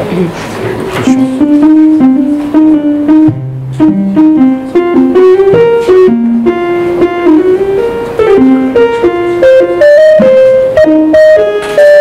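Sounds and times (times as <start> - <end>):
synthesizer melodic run: 1.1 - 12.0.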